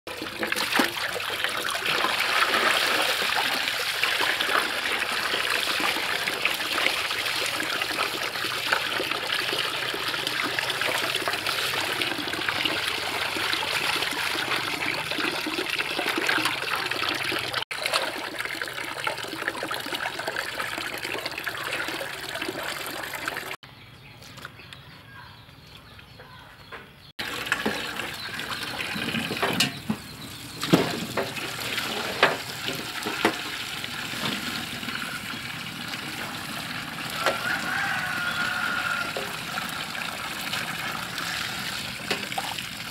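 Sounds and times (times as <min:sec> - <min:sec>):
tap water pouring into basin: 0:00.1 - 0:23.6, 0:27.2 - 0:42.9.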